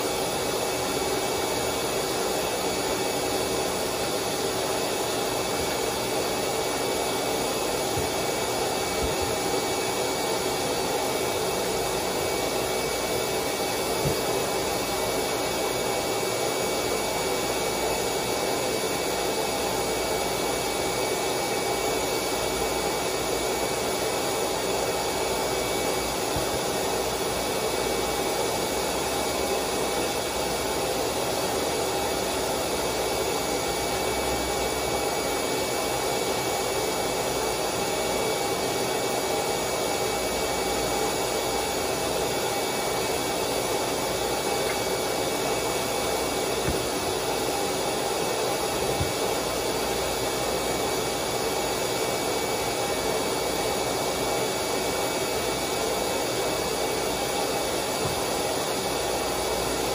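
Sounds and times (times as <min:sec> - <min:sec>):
electric blower motor whirring: 0:00.0 - 0:59.9.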